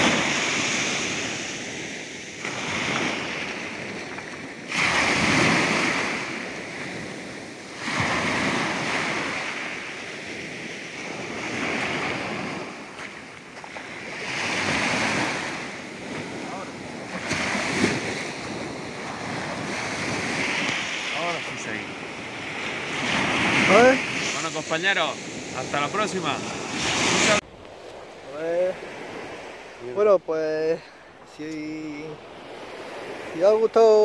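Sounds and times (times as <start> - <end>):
surf breaking on a beach: 0.0 - 34.0.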